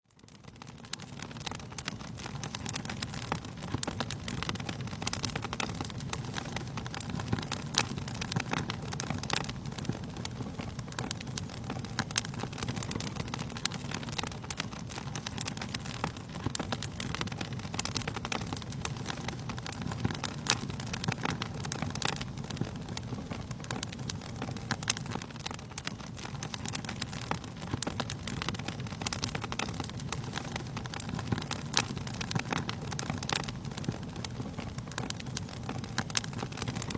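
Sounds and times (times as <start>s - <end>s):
low rumble of flames: 0.1s - 36.9s
wood crackling in fire: 0.1s - 36.9s.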